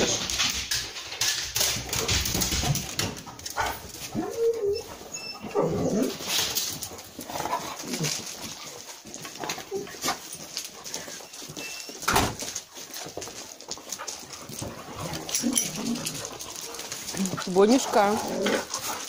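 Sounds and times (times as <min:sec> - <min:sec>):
rustles and knocks: 0:00.0 - 0:04.7, 0:06.0 - 0:17.8
dogs whining: 0:03.4 - 0:19.0.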